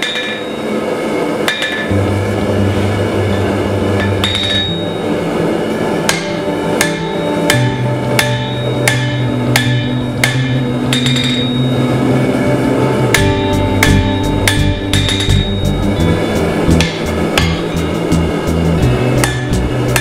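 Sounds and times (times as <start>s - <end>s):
hammer striking steel on anvil: 0.0s - 0.8s, 1.4s - 2.0s, 3.3s - 11.9s, 13.0s - 18.3s, 19.0s - 20.0s
background music: 1.9s - 20.0s.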